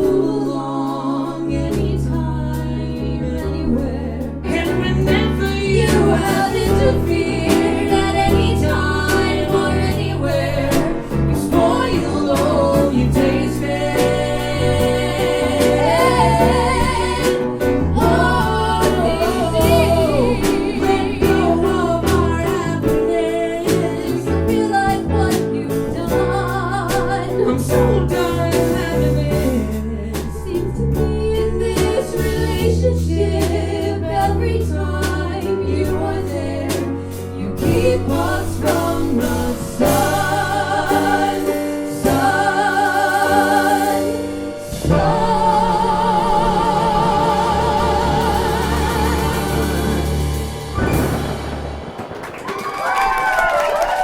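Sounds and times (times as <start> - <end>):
person singing: 0.0 - 44.2
bass: 0.0 - 54.0
drums: 0.0 - 54.0
piano: 0.0 - 54.0.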